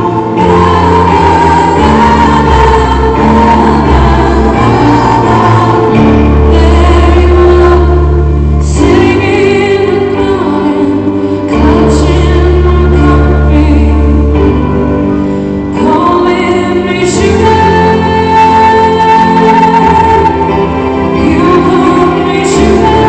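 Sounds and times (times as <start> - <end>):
woman singing: 0.0 - 14.8, 15.7 - 23.0
low held chords: 0.0 - 23.0.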